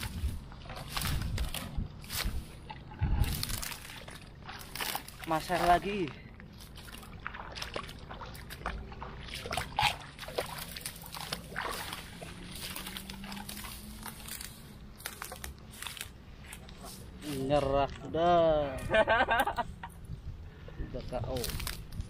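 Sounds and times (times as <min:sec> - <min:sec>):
water sloshing and splashing: 0:00.0 - 0:19.6
reed leaves rustling: 0:00.0 - 0:22.0.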